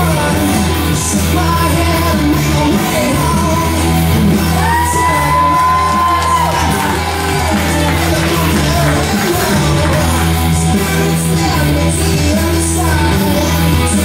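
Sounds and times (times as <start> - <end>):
song with singing and bass: 0.0 - 14.0.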